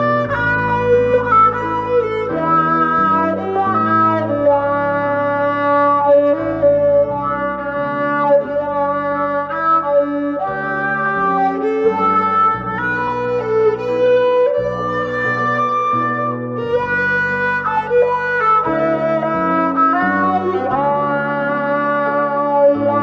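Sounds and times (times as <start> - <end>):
low backing chords: 0.0 - 23.0
violin melody: 0.0 - 23.0.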